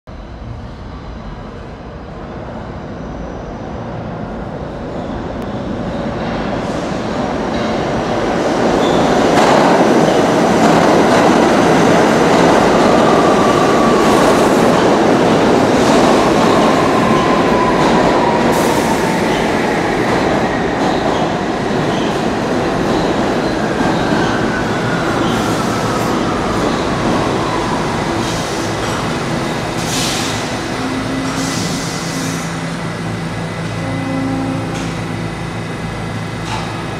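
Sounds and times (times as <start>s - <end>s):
subway train rumble: 0.1s - 36.9s.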